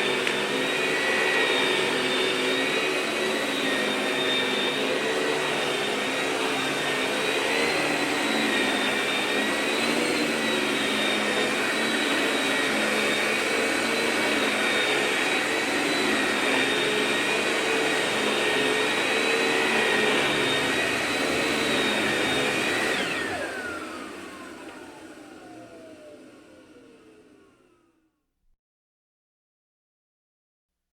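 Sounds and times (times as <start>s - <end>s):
vacuum motor spinning down: 0.0s - 28.0s
vacuum cleaner running: 0.0s - 28.1s.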